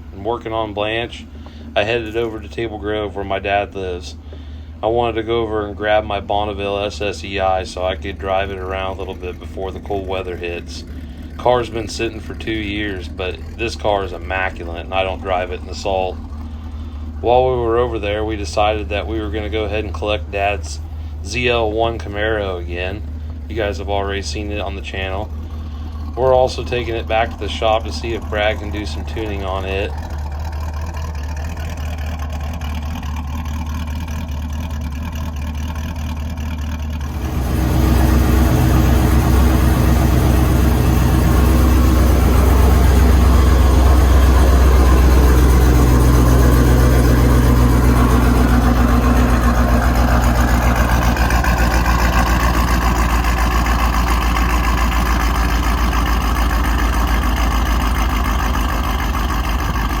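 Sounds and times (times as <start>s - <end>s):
car engine running: 0.0s - 60.0s.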